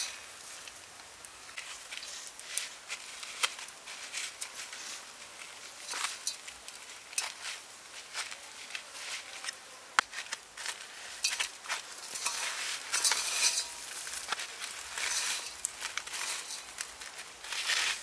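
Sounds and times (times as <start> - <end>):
breadcrumbs rustling and crunching: 0.0 - 18.0.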